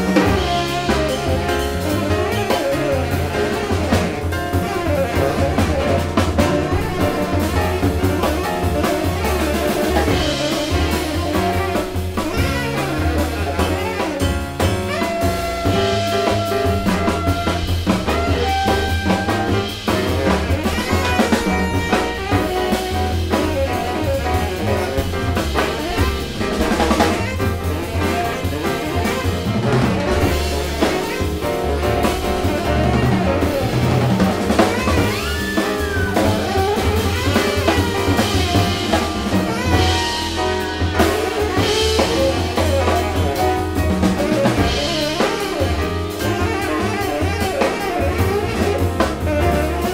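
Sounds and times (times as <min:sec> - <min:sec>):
double bass: 0:00.0 - 0:49.9
drum kit: 0:00.0 - 0:49.9
piano: 0:00.0 - 0:49.9
saxophone playing melodic lines: 0:00.0 - 0:49.9.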